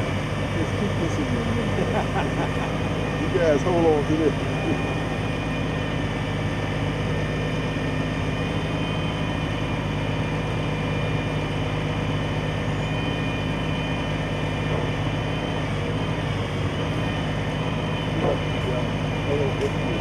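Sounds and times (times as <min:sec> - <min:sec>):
large engine idling: 0:00.0 - 0:20.0.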